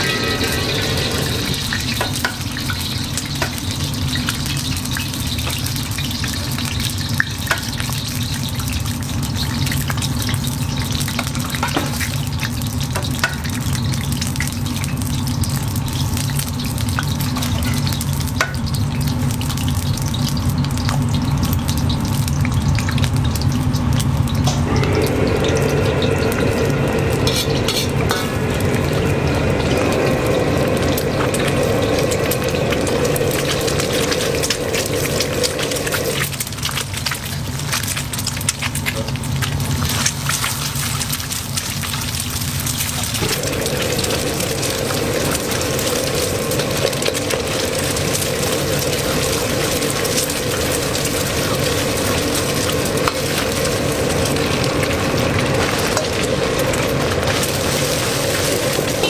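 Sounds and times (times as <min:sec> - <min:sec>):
eggs frying in hot oil: 0:00.0 - 0:59.0
gas burner rumble: 0:00.0 - 0:59.0.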